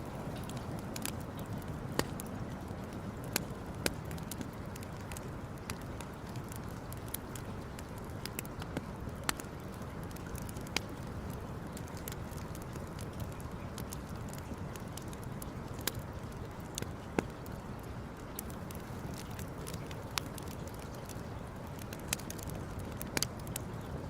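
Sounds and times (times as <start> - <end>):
campfire crackling and popping: 0.0 - 24.0
low rush of fire: 0.0 - 24.0.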